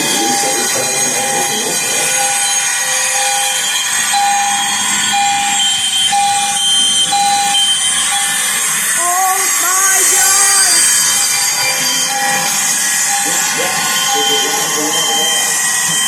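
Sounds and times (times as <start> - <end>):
fire alarm horns blaring: 0.0 - 16.0
higher beep: 0.0 - 16.0.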